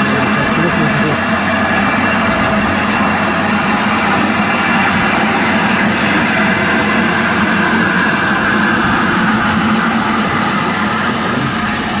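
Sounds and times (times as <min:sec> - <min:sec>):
steam train hissing and rumbling: 0:00.0 - 0:12.0.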